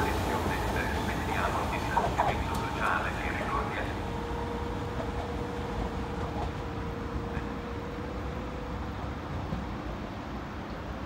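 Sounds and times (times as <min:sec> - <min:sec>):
electric locomotive whine: 0:00.0 - 0:11.0
train rumble: 0:00.0 - 0:11.0.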